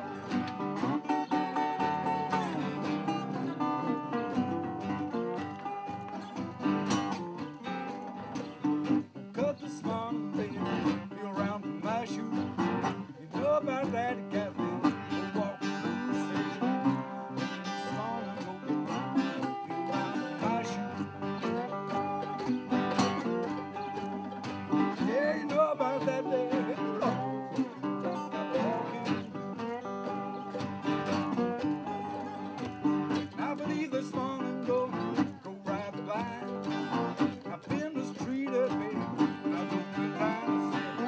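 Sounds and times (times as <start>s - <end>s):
guitars playing blues: 0.0s - 41.0s.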